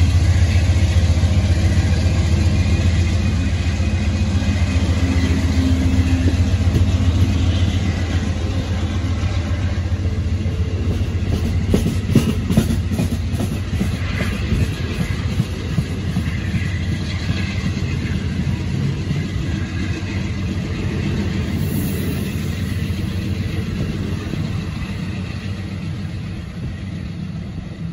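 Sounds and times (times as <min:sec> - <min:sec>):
train wheels rumbling on rail: 0:00.0 - 0:27.9.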